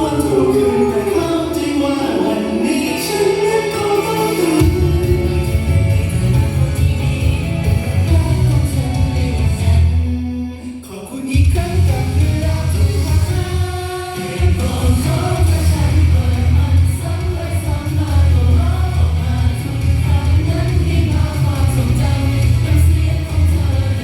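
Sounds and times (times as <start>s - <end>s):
heavy steady bass: 0.0s - 10.3s, 11.4s - 24.0s
pop song with sung vocals: 0.0s - 24.0s.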